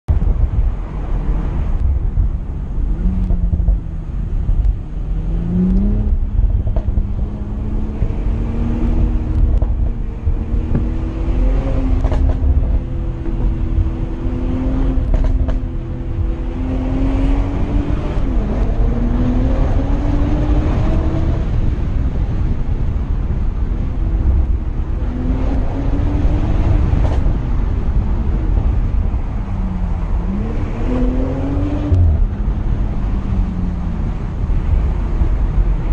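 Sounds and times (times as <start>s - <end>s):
road rumble: 0.0s - 35.9s
wind noise: 0.1s - 35.9s
car engine revving: 0.3s - 35.9s.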